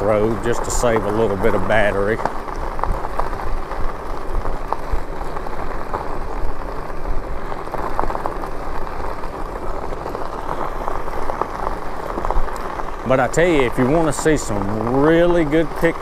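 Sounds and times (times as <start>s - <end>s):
bike tyres rolling on road: 0.0s - 16.0s.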